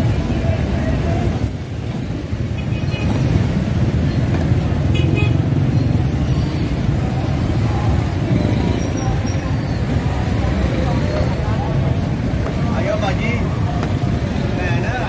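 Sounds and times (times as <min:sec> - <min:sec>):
road traffic rumble: 0:00.0 - 0:15.0
street bustle: 0:00.0 - 0:15.0.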